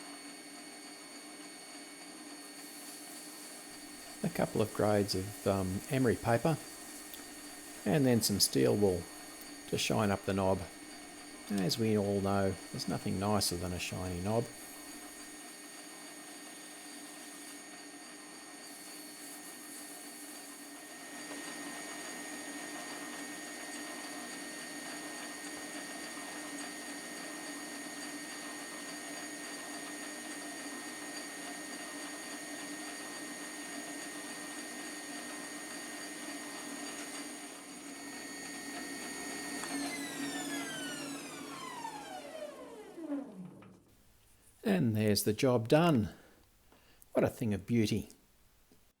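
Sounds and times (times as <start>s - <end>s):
metal lathe whining: 2.6s - 43.9s.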